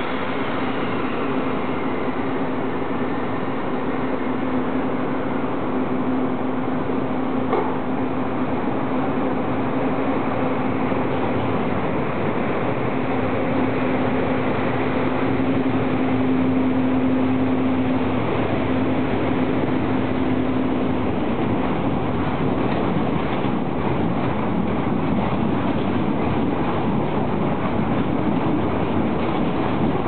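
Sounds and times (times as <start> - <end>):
electric locomotive hum: 0.0 - 30.0.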